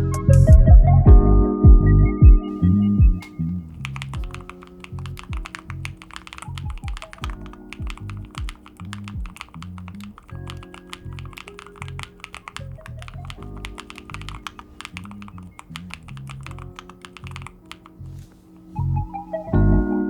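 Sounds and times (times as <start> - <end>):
background music with steady beat: 0.0 - 20.0
keyboard key clicks: 2.5 - 19.5.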